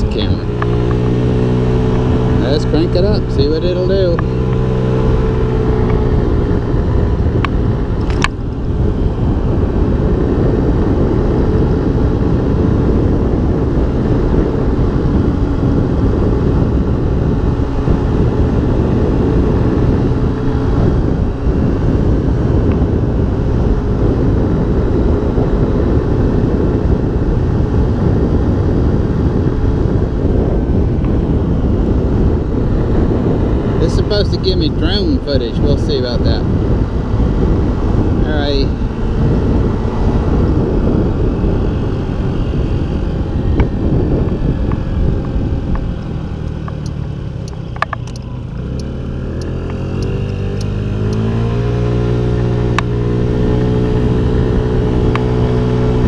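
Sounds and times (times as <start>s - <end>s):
scooter engine running: 0.0s - 56.0s
wind rumble on microphone: 0.0s - 56.0s.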